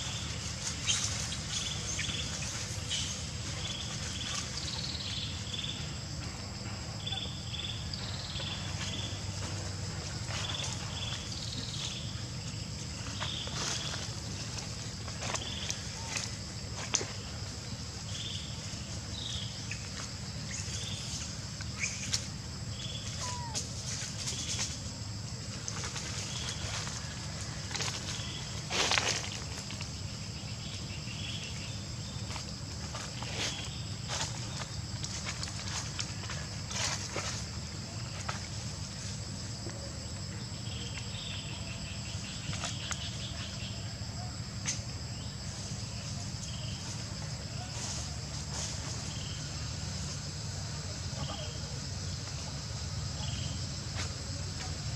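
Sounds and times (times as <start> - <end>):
high insect drone: 0.0 - 54.9
low steady rumble: 0.0 - 54.9.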